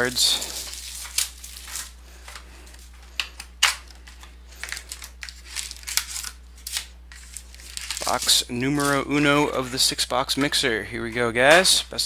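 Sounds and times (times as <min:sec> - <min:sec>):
plastic wrapping crinkling and tearing: 0:00.0 - 0:09.8
low steady hum: 0:00.0 - 0:12.0.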